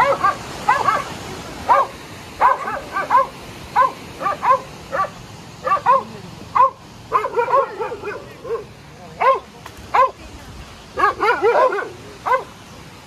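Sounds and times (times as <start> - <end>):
dog barking in high yaps: 0.0 - 10.2, 11.0 - 12.5.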